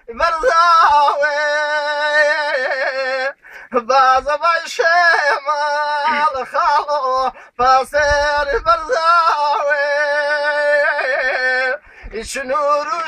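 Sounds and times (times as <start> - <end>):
man singing in a high voice: 0.0 - 13.0.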